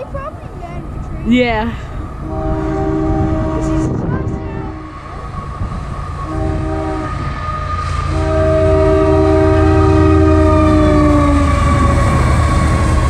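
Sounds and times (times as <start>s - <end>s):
locomotive engines rumbling: 0.0s - 13.0s
train horn: 2.2s - 13.0s.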